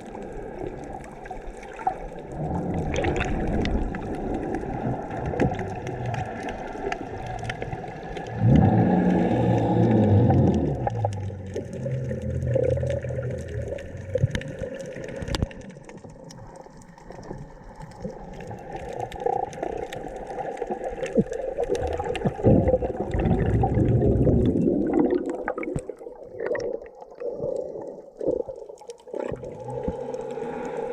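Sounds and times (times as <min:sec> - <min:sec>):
underwater clicks and crackles: 0:00.0 - 0:30.9
underwater exhaled bubbles: 0:00.0 - 0:30.9.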